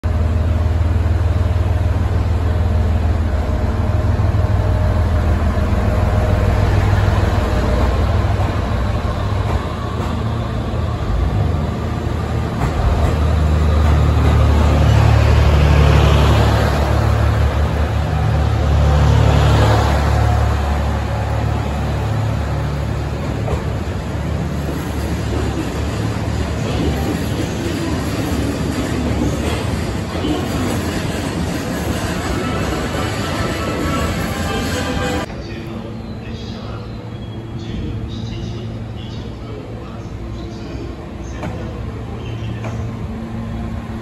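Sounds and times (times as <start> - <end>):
diesel railcar engine drone: 0.0 - 44.0
train running and wheel noise: 0.0 - 44.0.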